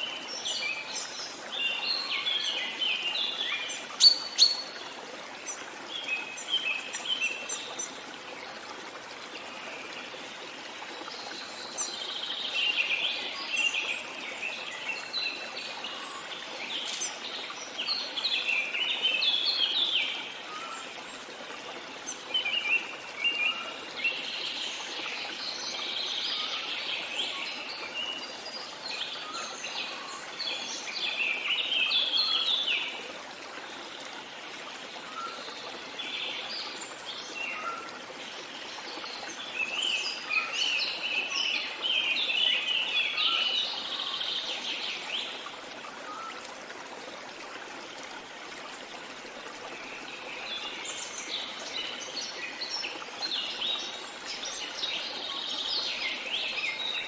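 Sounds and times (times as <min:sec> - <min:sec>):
flowing water hiss: 0:00.0 - 0:57.0.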